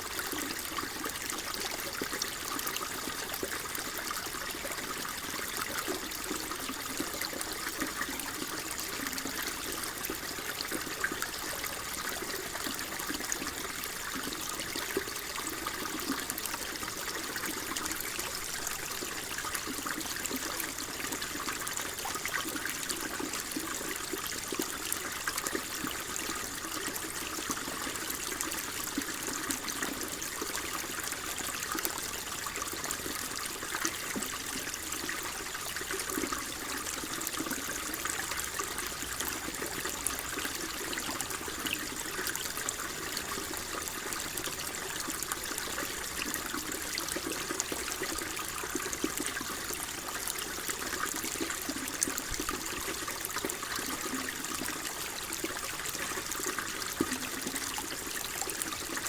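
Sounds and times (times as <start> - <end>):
water flowing and trickling: 0.0 - 59.0.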